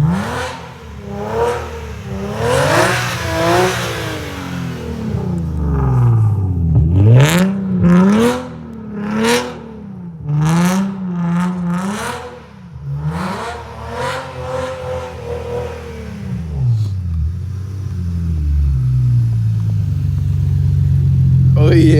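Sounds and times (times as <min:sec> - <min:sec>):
car exhaust revving and idling: 0:00.0 - 0:21.9.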